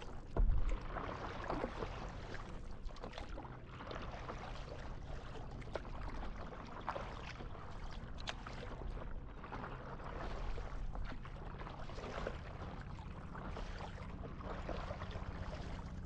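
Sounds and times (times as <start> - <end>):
paddle splashing in water: 0.0 - 16.0
water lapping against paddleboard: 0.0 - 16.0.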